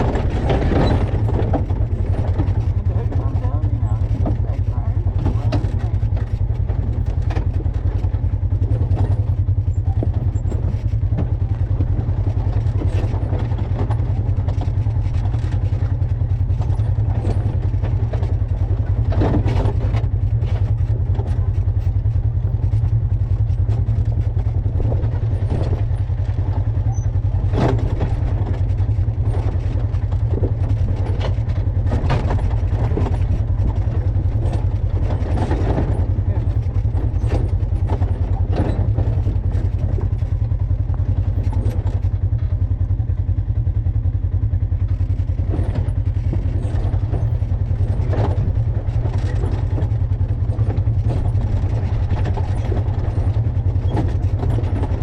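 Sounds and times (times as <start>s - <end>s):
vehicle engine running: 0.0s - 55.0s
wind rumble on microphone: 0.0s - 55.0s.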